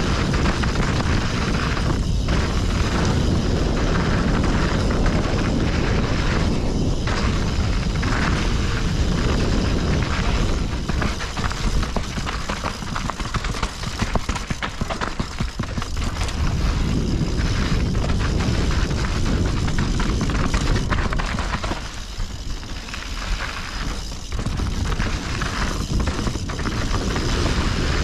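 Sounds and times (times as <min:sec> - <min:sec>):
bike rattling over rocks: 0:00.0 - 0:28.0
wind rumbling on microphone: 0:00.0 - 0:28.0.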